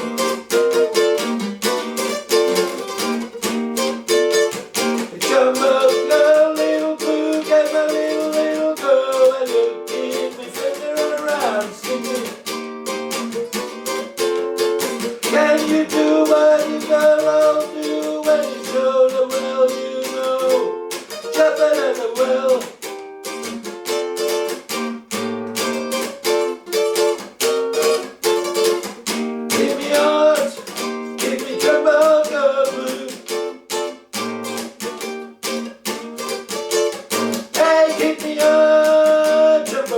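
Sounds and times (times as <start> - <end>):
plucked string instrument music: 0.0 - 39.9.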